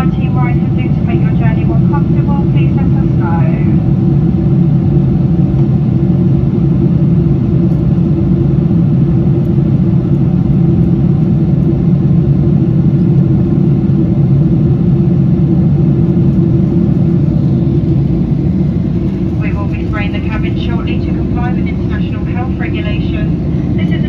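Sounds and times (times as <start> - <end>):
airplane cabin engine drone: 0.0 - 24.0.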